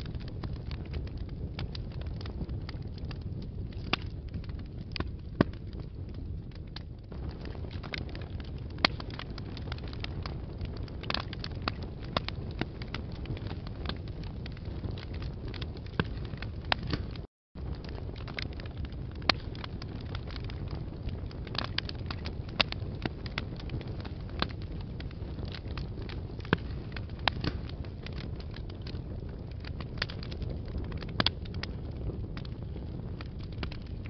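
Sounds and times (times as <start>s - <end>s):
fire crackling and popping: 0.0s - 34.0s
fire low rumble: 0.0s - 34.0s.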